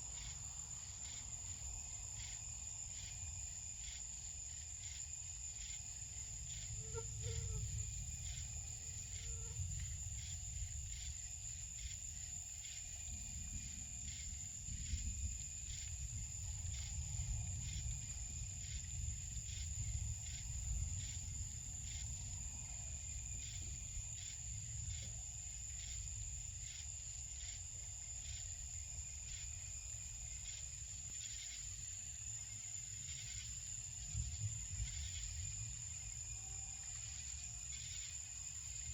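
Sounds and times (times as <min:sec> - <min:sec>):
constant high-pitched whine: 0:00.0 - 0:38.9
crickets chirping: 0:00.0 - 0:38.9.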